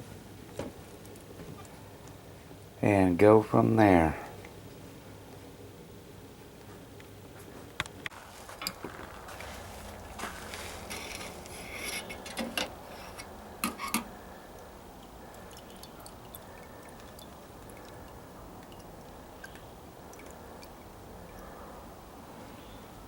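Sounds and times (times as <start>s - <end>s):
faint background hum: 0.0s - 23.0s.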